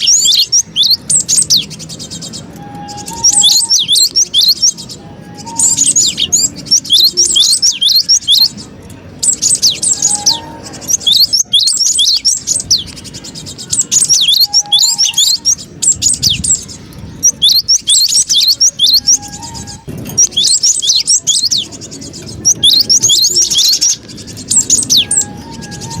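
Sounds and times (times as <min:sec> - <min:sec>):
bird sharp high chirps: 0:00.0 - 0:26.0.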